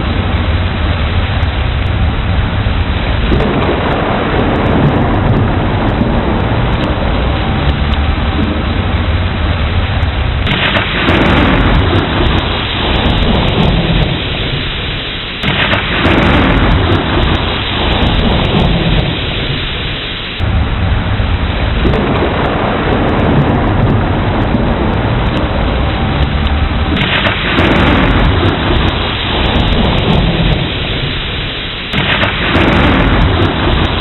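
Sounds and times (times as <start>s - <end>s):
heavy rain: 0.0s - 34.0s
low thunder rumbling: 0.0s - 34.0s.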